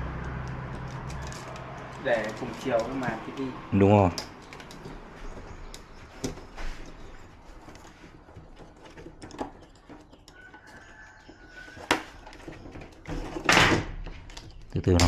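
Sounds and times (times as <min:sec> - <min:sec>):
clicks and rustles of handling: 0:00.2 - 0:03.5, 0:04.1 - 0:15.0.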